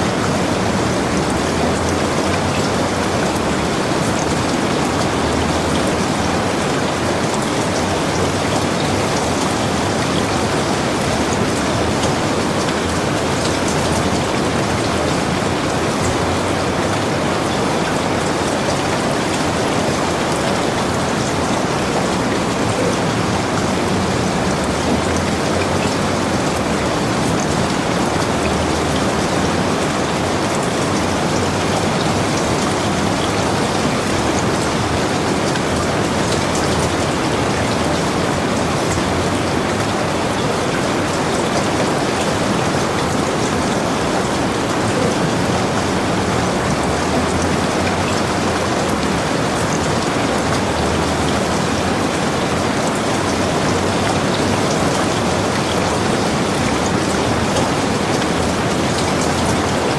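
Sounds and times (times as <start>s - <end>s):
heavy rain: 0.0s - 59.9s
raindrop patter: 0.0s - 59.9s.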